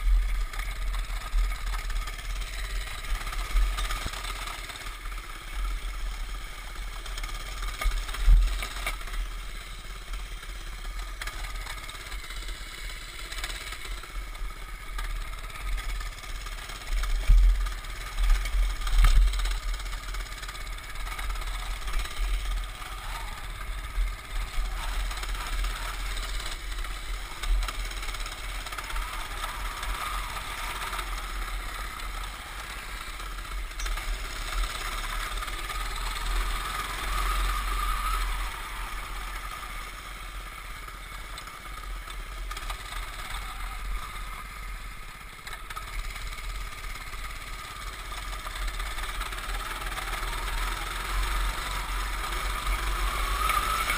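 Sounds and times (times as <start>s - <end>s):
mini bike engine running: 0.0s - 53.9s.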